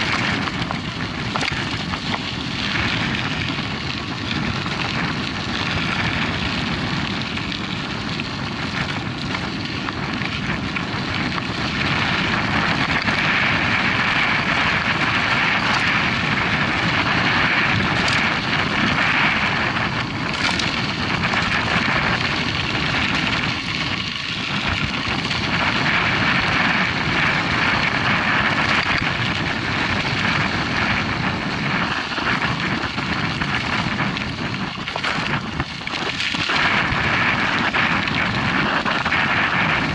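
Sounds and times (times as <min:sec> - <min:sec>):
tyres rolling on dirt: 0:00.0 - 0:39.9
wind on microphone: 0:00.0 - 0:39.9.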